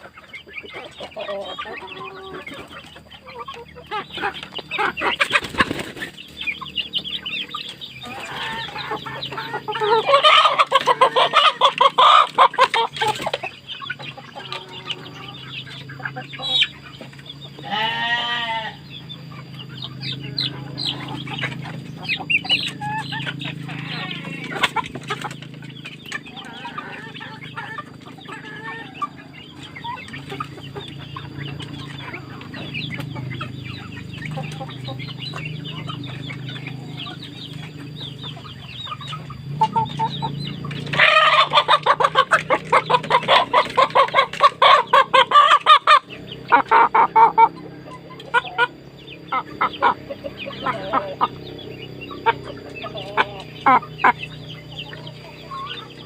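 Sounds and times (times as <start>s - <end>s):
chicken cackling loudly: 0.0s - 56.0s
chickens clucking: 0.0s - 56.0s.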